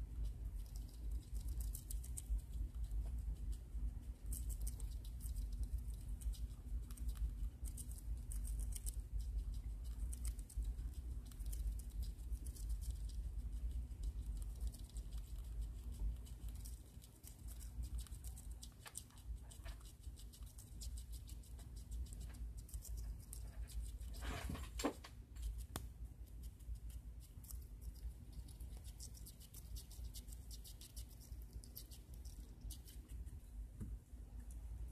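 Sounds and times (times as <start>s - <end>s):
rat chewing a leaf: 0.0s - 33.4s
low steady hum: 0.0s - 34.9s.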